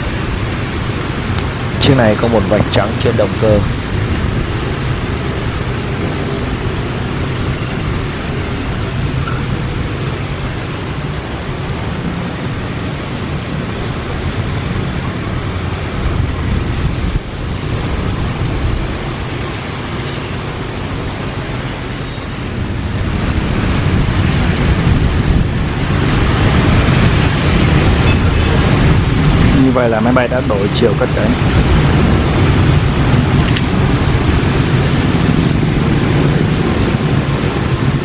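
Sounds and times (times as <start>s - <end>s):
jet engines at taxi power: 0.0s - 38.0s
rain: 0.0s - 38.0s.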